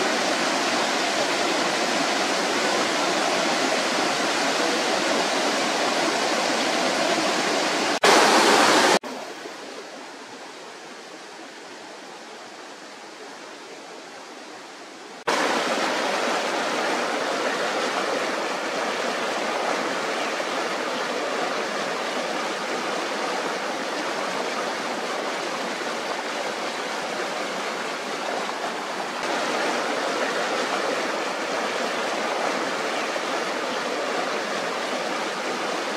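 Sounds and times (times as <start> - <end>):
stream rushing over rocks: 0.0 - 35.9.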